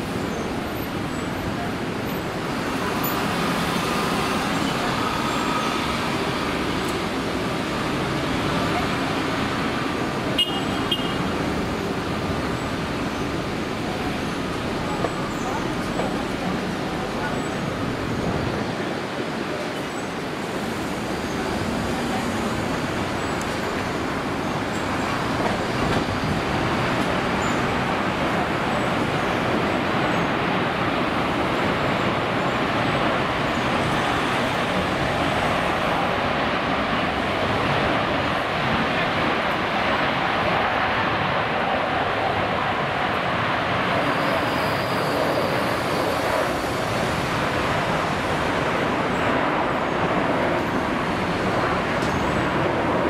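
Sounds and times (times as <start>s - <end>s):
jet engines rushing: 0.0s - 53.0s.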